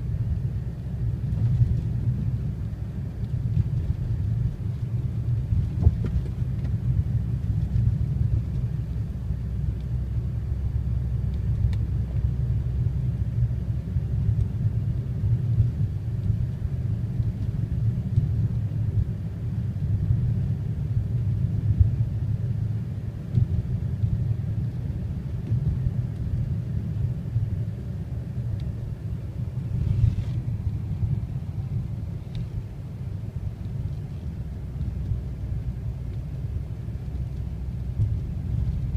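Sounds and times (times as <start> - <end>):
car engine and tyre noise: 0.0 - 38.9.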